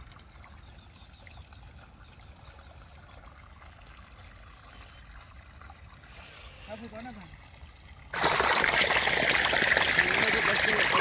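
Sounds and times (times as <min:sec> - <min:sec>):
water trickling from pipe: 0:00.0 - 0:11.0.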